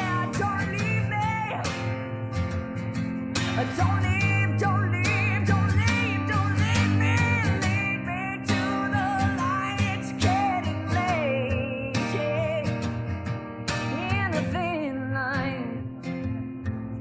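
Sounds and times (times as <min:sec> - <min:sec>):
person singing with wavering voice: 0:00.0 - 0:02.3, 0:03.4 - 0:13.0, 0:13.8 - 0:16.4
guitar: 0:00.0 - 0:17.0.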